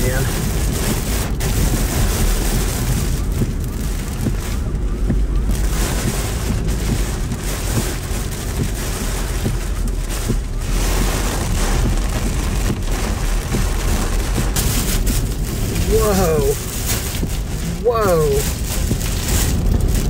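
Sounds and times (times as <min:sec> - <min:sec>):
heavy rain and wind on a car: 0:00.0 - 0:20.0
low rumble: 0:00.0 - 0:20.0.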